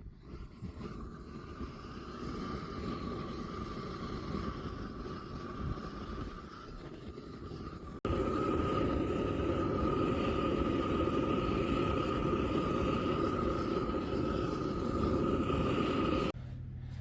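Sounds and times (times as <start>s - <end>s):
propane torch roaring: 0.0s - 16.4s
torch whistling tone: 0.0s - 16.4s.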